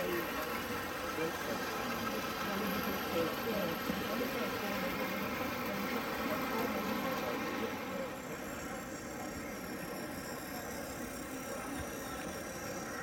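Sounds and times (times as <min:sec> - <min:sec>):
hall background noise: 0:00.0 - 0:13.0
model trains running on track: 0:00.0 - 0:13.0.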